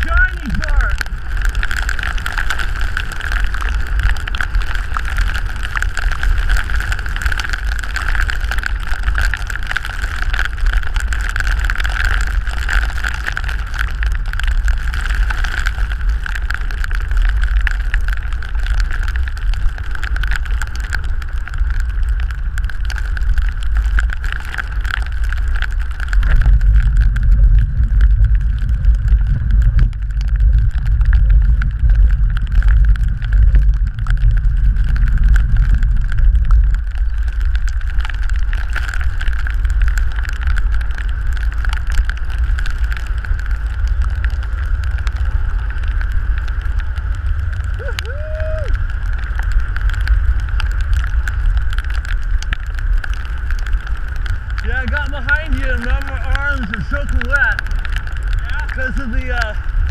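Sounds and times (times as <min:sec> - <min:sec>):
tyres hissing on wet asphalt: 0:00.0 - 0:59.9
wind buffeting microphone: 0:00.0 - 0:59.9.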